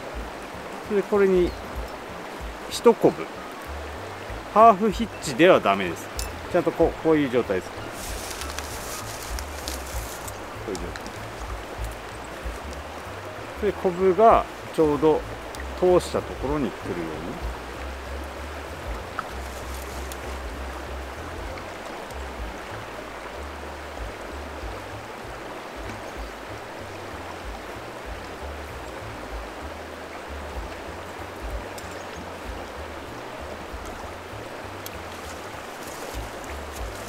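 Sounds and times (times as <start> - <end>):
stream water running: 0.0 - 37.0.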